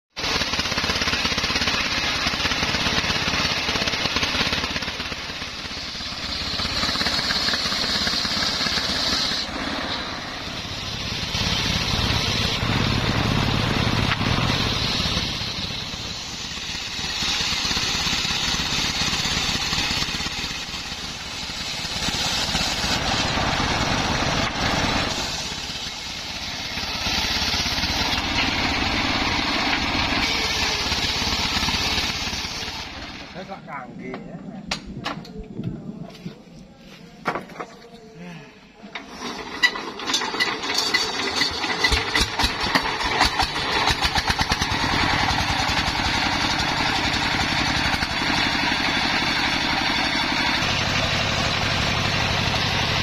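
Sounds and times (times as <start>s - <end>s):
diesel engine running: 0.1s - 34.0s, 38.2s - 53.0s
circular saw cutting wood: 0.2s - 33.5s, 39.0s - 53.0s.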